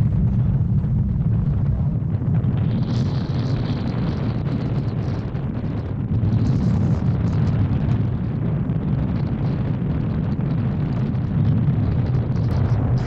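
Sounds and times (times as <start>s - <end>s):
car road rumble inside cabin: 0.0s - 13.0s.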